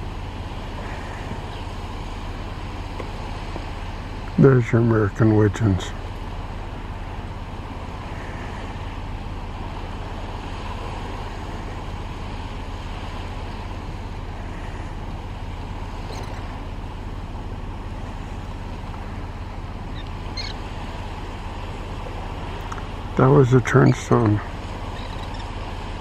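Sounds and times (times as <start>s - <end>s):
waves washing on rocky shore: 0.0s - 26.0s
wind rumble on microphone: 0.0s - 26.0s.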